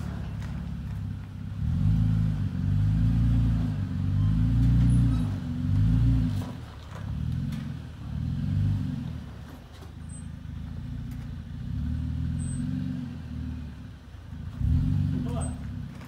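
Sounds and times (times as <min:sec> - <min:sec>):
truck engine under throttle: 0:00.0 - 0:16.0.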